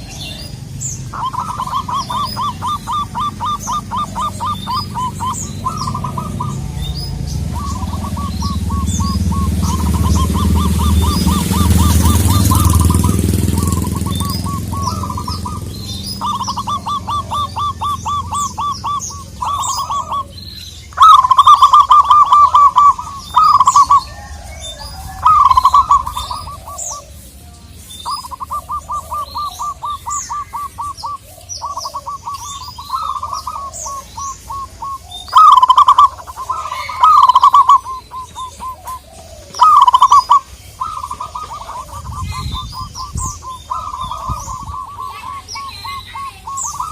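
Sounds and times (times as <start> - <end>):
doves cooing: 0.0 - 46.9
small birds chirping: 0.0 - 46.9.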